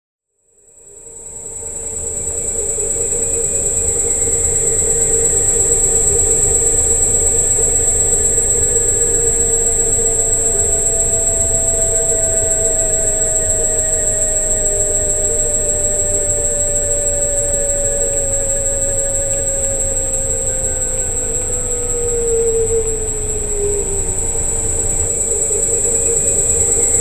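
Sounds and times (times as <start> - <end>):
electric scooter motor whine: 1.4 - 27.0.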